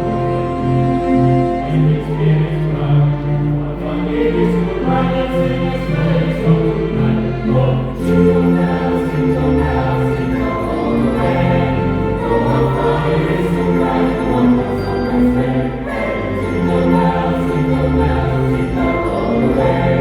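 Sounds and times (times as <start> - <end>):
church choir singing: 0.0 - 20.0.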